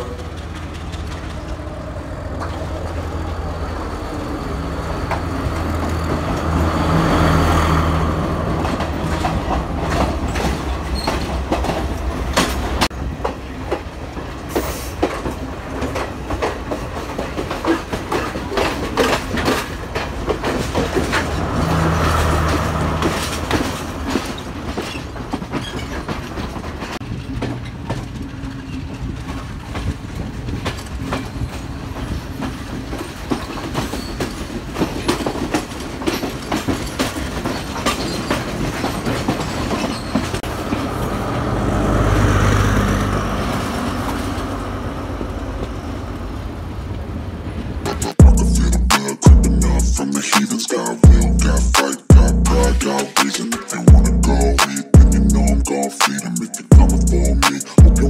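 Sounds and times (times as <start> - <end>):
wheels clacking over rail joints: 0.0 - 48.2
train rumbling past: 0.0 - 58.0.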